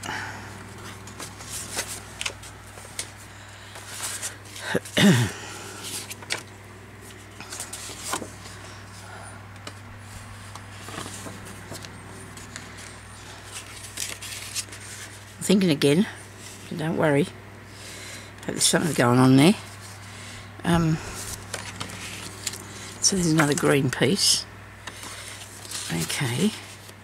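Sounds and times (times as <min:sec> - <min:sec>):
steady low hum: 0:00.0 - 0:27.0
paper rustling and shuffling: 0:00.6 - 0:05.0, 0:05.7 - 0:15.7, 0:16.4 - 0:16.7, 0:18.6 - 0:27.0.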